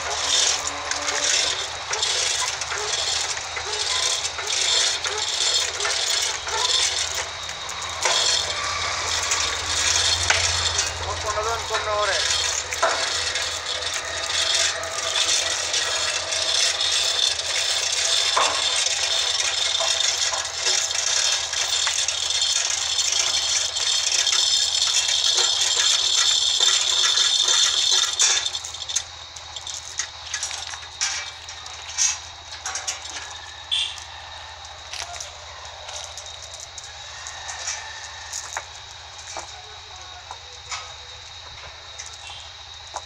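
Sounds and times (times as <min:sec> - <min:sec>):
heavy chains rattling and clinking: 0:00.0 - 0:43.0.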